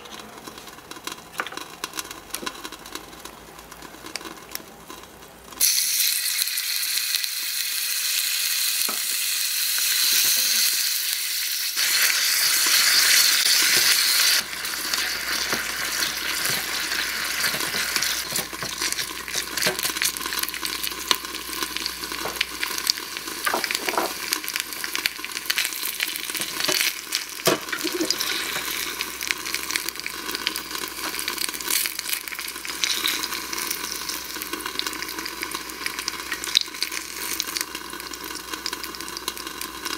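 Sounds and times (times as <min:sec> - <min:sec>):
beef sizzling in a saucepan: 0:00.0 - 0:39.9.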